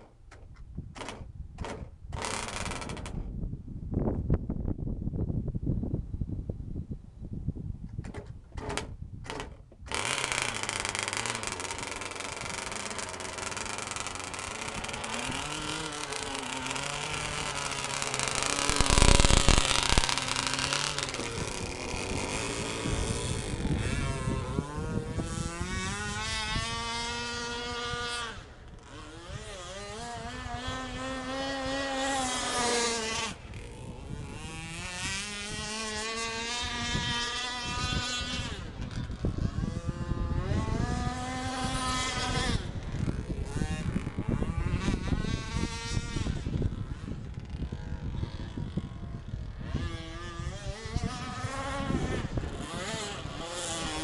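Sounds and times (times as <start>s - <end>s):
small two-stroke engine revving: 9.9s - 54.0s.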